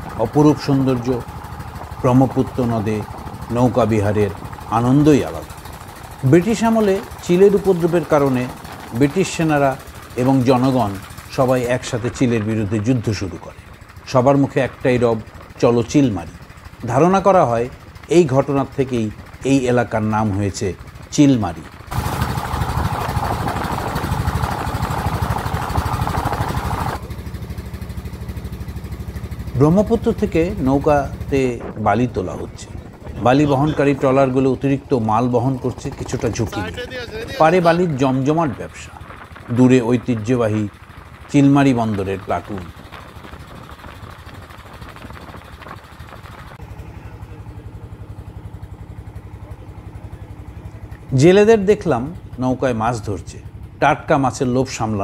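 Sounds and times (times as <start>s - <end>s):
water rushing along hull: 0.0s - 53.7s
boat engine running: 0.0s - 55.0s.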